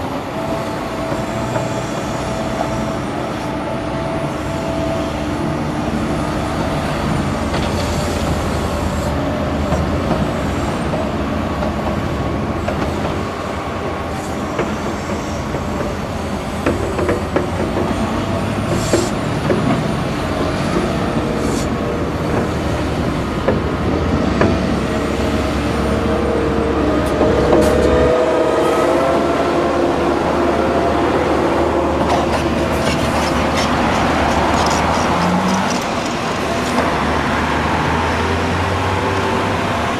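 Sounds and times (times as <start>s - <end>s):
dump truck engine pulling away: 0.0s - 39.9s
excavator diesel engine under load: 0.0s - 39.9s.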